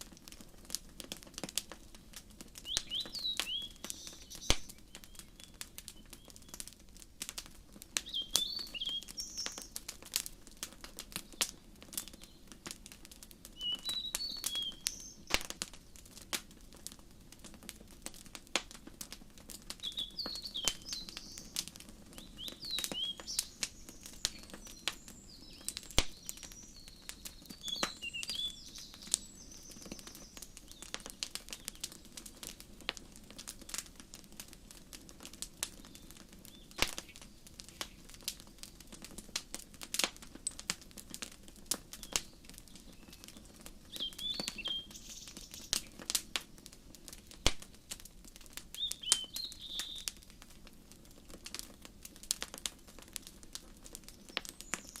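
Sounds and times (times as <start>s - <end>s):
wood fire crackling and popping: 0.0s - 55.0s
songbirds chirping: 1.6s - 39.2s, 39.9s - 50.4s, 52.9s - 55.0s.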